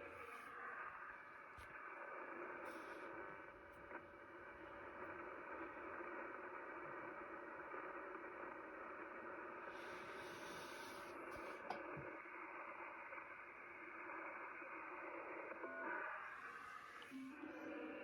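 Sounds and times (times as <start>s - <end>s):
faint steady tones: 0.0s - 18.0s
shortwave receiver hiss and static: 0.0s - 18.0s.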